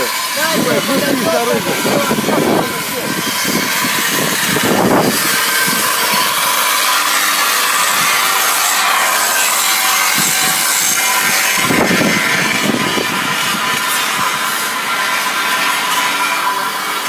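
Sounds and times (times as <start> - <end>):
power tool grinding: 0.0 - 17.0.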